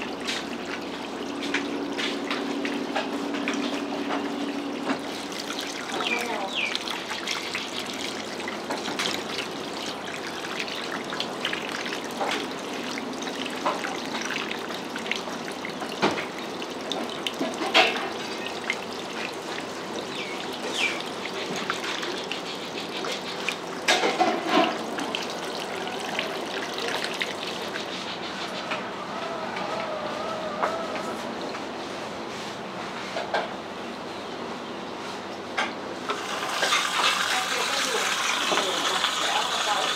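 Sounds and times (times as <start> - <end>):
running water splashing: 0.0 - 28.3, 36.1 - 39.9.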